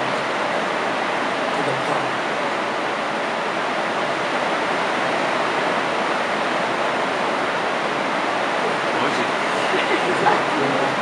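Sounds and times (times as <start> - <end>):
steady loud hiss: 0.0 - 11.0.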